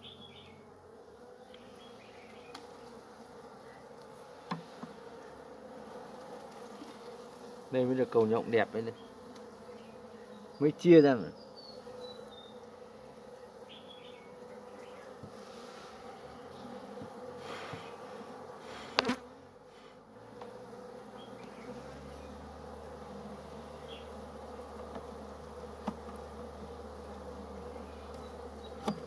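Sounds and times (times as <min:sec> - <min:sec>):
honey bees buzzing: 0:00.0 - 0:29.0.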